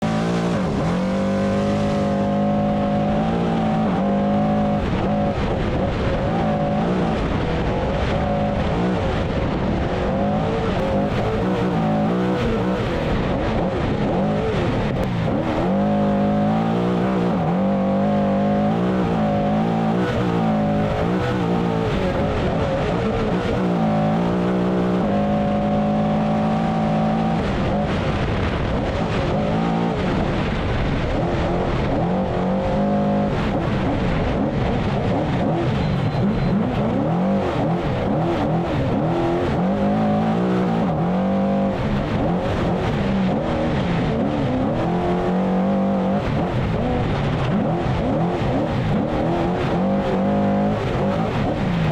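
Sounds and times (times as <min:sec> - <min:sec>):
engine revving hard: 0:00.0 - 0:51.9
tyre and wind noise: 0:00.0 - 0:51.9.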